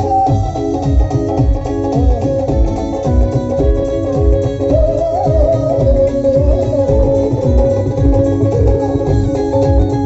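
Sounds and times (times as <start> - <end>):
heavy drum beat: 0.0 - 10.0
live band music through speakers: 0.0 - 10.0
plucked twangy string melody: 0.0 - 10.0.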